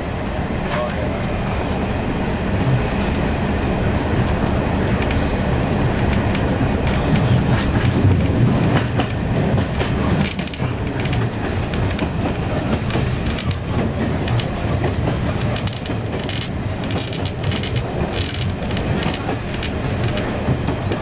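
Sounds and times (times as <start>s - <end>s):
train rumbling: 0.0s - 21.0s
wheels clicking over rail joints: 3.6s - 21.0s.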